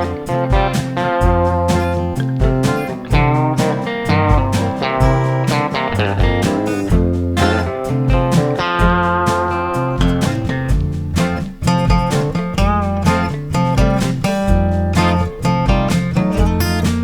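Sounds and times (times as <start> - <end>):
country blues guitars: 0.0 - 17.0.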